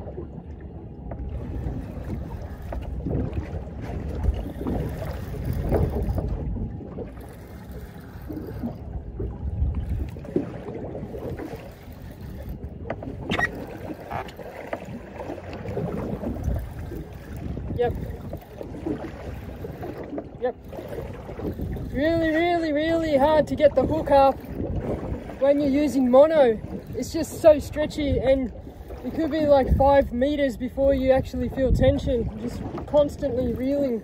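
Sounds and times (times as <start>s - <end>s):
water slapping against hull: 0.0s - 34.0s
wind buffeting microphone: 0.0s - 34.0s.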